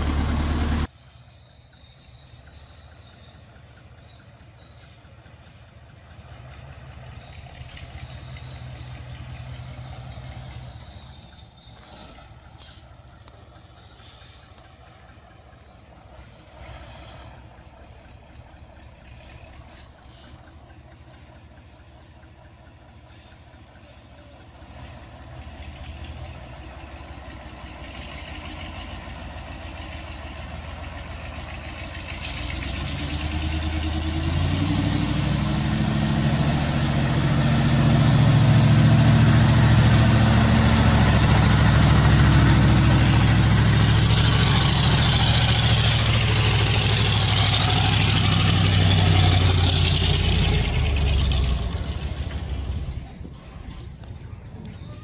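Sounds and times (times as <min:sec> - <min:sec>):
heavy truck engine: 0:00.0 - 0:55.0.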